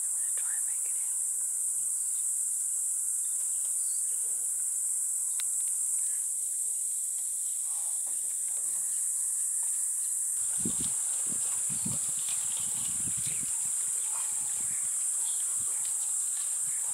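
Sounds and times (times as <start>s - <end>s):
shrill insect chorus: 0.0s - 16.9s.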